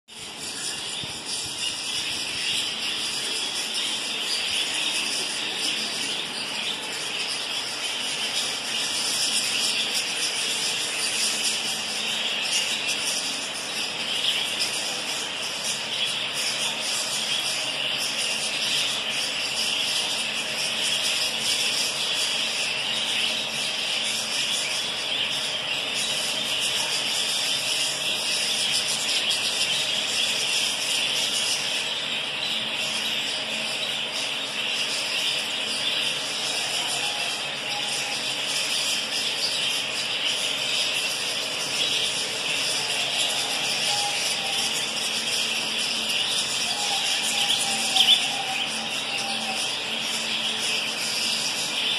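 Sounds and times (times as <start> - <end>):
budgerigars chattering: 0.1 - 51.9.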